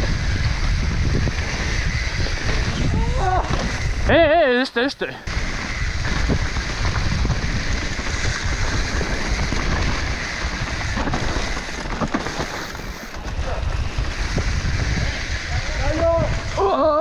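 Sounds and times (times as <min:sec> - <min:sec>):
wind rushing over microphone: 0:00.0 - 0:04.6, 0:05.2 - 0:17.0
tyres rolling on dirt trail: 0:00.0 - 0:17.0.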